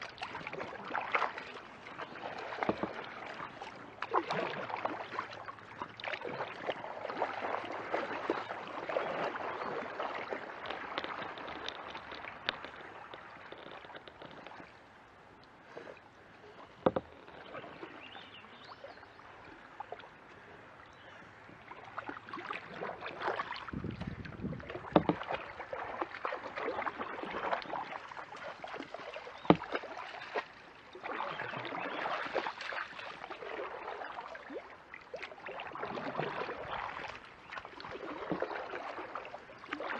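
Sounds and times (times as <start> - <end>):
kayak paddle splashing water: 0.0 - 39.9.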